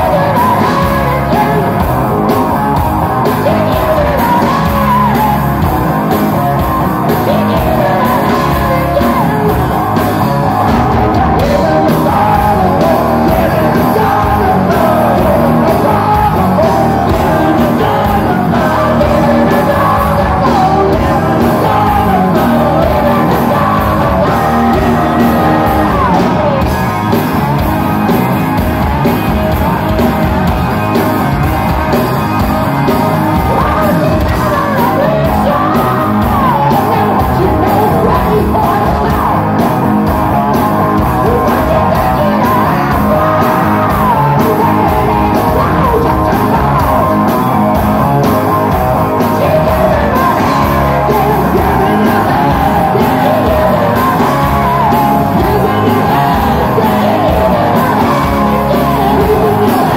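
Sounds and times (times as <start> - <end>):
bass guitar: 0.0 - 59.9
drums: 0.0 - 59.9
electric guitars: 0.0 - 59.9
person singing lead vocal: 0.0 - 59.9.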